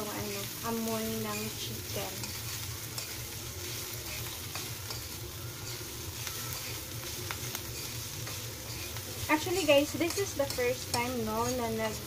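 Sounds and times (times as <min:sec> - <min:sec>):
metal utensil scraping wok: 0:00.0 - 0:12.0
vegetables sizzling in hot oil: 0:00.0 - 0:12.0.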